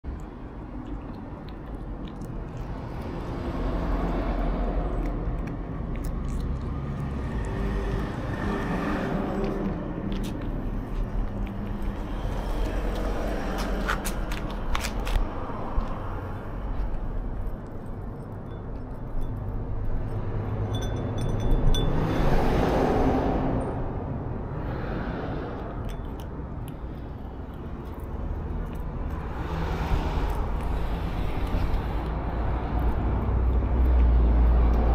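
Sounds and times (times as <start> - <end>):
cat crunching dried fish: 0.1 - 20.0, 25.8 - 34.9.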